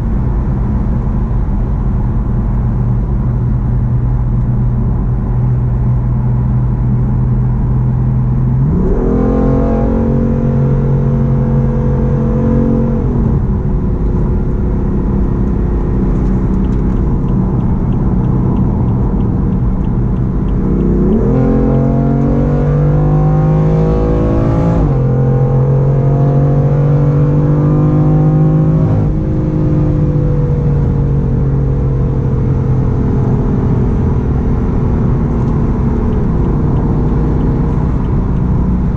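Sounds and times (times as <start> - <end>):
car engine revving while driving: 0.1 - 38.9.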